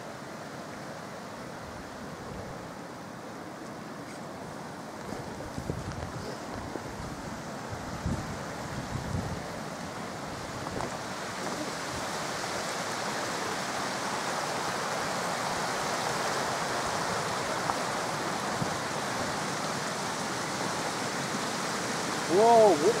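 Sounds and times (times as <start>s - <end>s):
rushing water and waterfalls: 0.0s - 23.0s.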